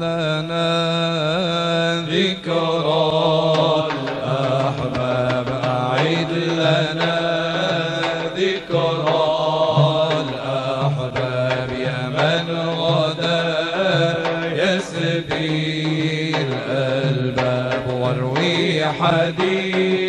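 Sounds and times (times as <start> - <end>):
man singing devotional chant: 0.0 - 20.0.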